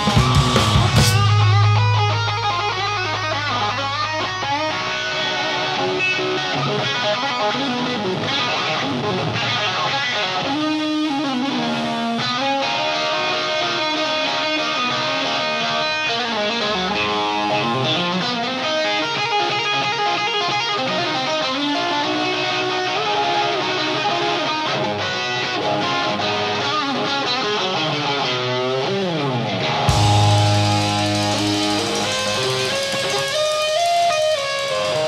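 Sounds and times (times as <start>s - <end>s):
electric guitar blues-rock lead: 0.0s - 35.0s.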